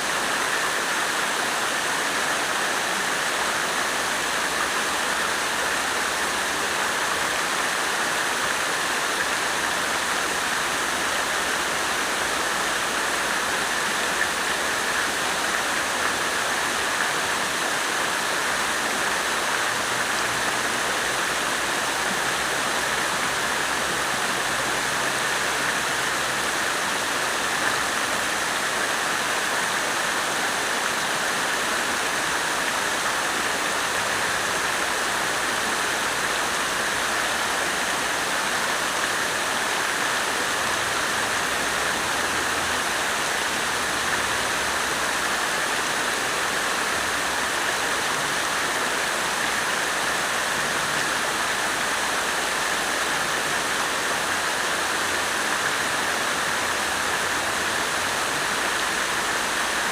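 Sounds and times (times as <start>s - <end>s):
water fountain splashing: 0.0s - 59.9s.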